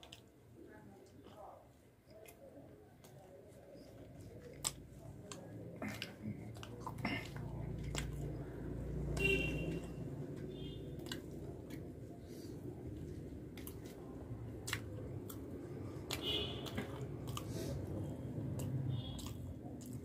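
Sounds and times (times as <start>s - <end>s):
wet chewing and mouth clicks: 2.0s - 20.0s.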